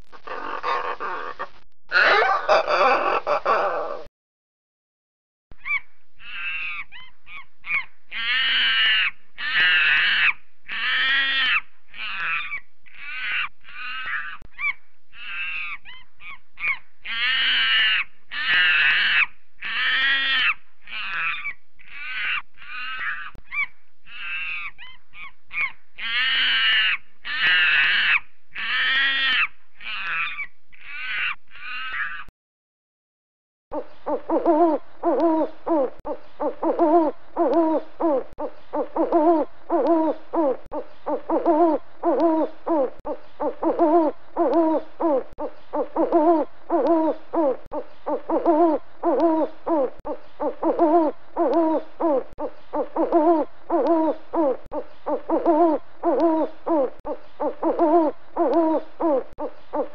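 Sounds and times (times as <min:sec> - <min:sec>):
monkey screeching calls: 0:00.3 - 0:04.0, 0:05.6 - 0:32.3, 0:33.8 - 0:59.9.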